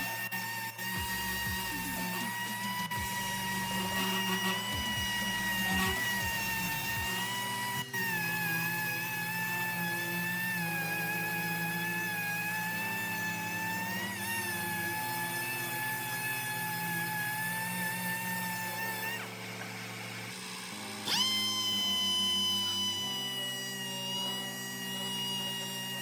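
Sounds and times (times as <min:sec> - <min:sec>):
background music: 0:00.0 - 0:26.0
power tool whining: 0:00.0 - 0:26.0.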